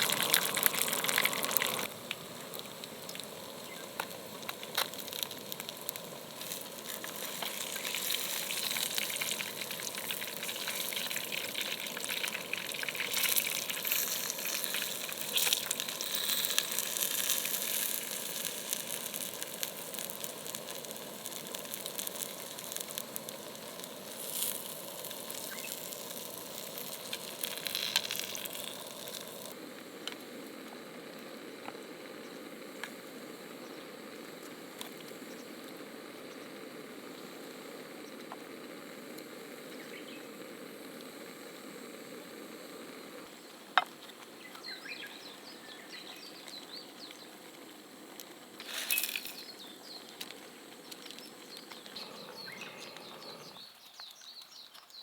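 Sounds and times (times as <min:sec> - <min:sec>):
food frying in hot oil: 0:00.0 - 0:29.6, 0:30.4 - 0:53.7.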